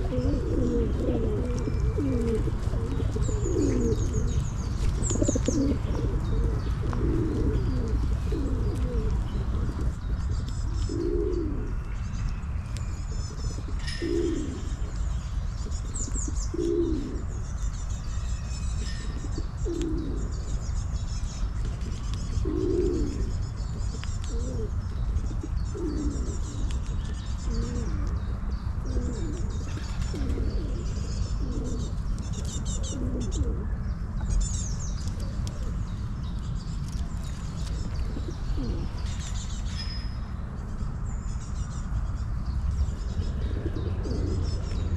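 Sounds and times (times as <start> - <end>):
pigeons cooing: 0.0 - 11.9, 13.1 - 18.0, 19.0 - 20.6, 21.6 - 35.9, 37.0 - 39.7, 42.7 - 44.9
small birds chirping: 0.0 - 44.9
steady low rumble: 0.0 - 44.9.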